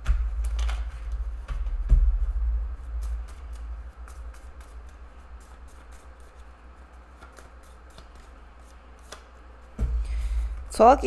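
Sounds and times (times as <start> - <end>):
cards being shuffled: 0.0 - 2.0, 2.8 - 9.8.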